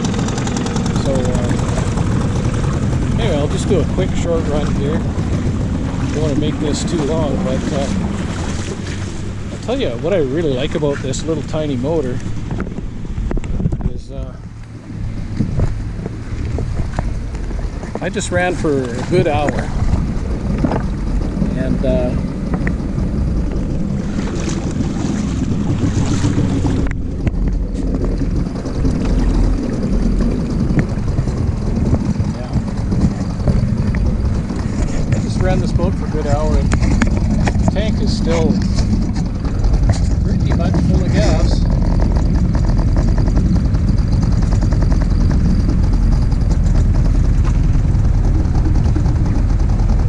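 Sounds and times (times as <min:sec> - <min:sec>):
outboard motor running: 0:00.0 - 0:50.0
wind noise on microphone: 0:00.0 - 0:50.0.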